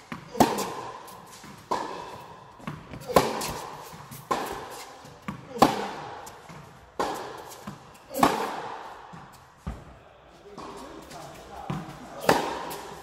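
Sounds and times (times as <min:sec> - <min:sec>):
racket hitting tennis ball: 0:00.0 - 0:09.8, 0:11.7 - 0:13.0
tennis ball bouncing: 0:00.0 - 0:09.8, 0:11.7 - 0:13.0.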